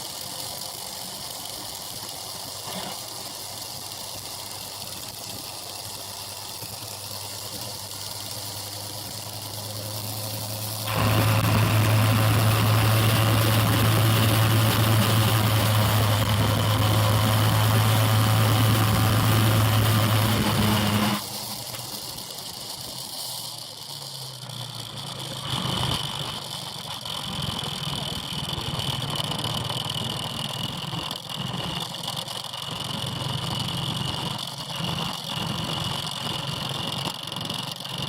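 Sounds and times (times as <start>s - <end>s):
motorbike engine running: 0.0s - 38.0s.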